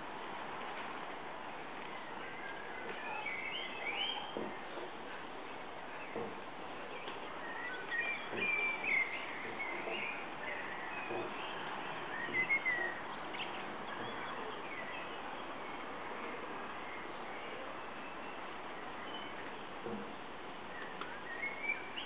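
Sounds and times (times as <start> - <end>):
steady background hiss: 0.0 - 22.0
small birds chirping: 1.8 - 22.0.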